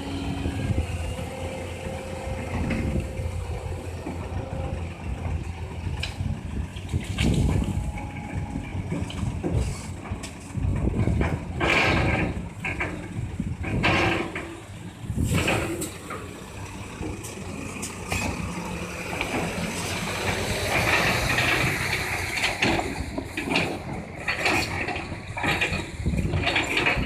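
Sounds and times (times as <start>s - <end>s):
excavator diesel engine under load: 0.0s - 27.0s
bucket and arm clanking: 0.9s - 27.0s.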